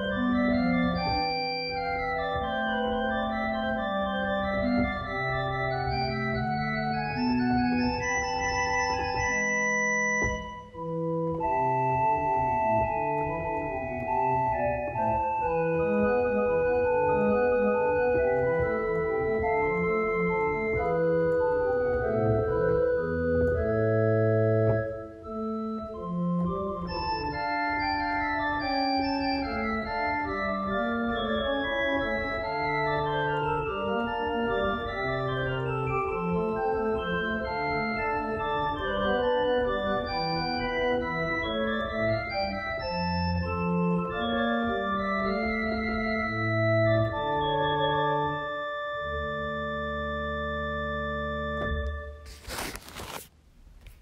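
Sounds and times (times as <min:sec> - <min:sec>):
organ playing: 0:00.0 - 0:53.2.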